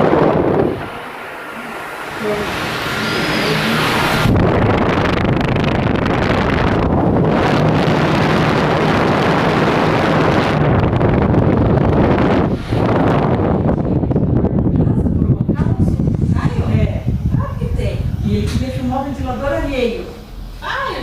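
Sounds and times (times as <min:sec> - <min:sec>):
fan air rushing on microphone: 0:00.0 - 0:21.0
low motor hum: 0:00.0 - 0:21.0.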